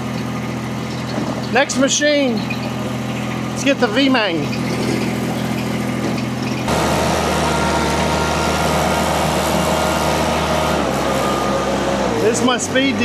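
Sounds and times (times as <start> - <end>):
machine engine with whining tones: 0.0 - 13.0
skid steer engine running: 0.0 - 13.0.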